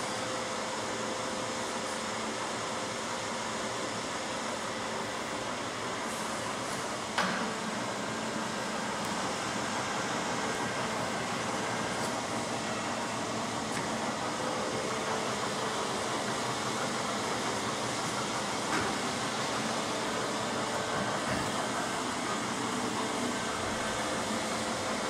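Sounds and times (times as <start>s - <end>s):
lathe motors humming: 0.0s - 25.0s.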